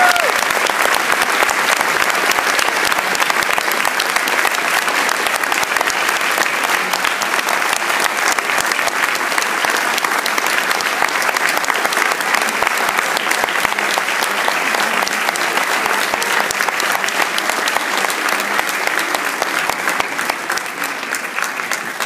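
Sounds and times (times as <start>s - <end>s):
large audience applauding: 0.0s - 22.0s.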